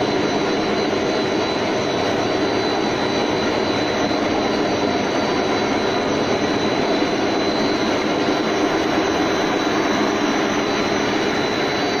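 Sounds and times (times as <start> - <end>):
factory machinery noise: 0.0 - 12.0
thin high whine: 0.0 - 12.0.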